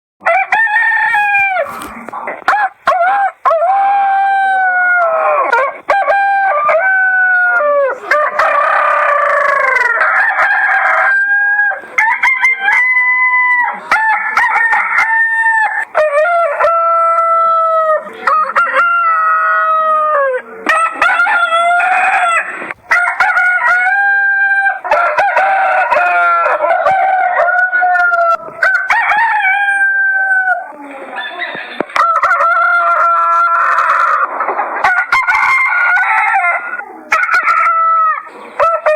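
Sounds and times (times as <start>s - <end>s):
roosters crowing: 0.2s - 38.9s.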